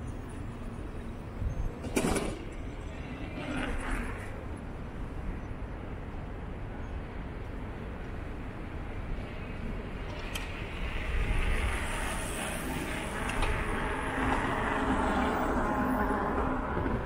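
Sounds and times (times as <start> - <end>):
road noise rumble: 0.0 - 17.0.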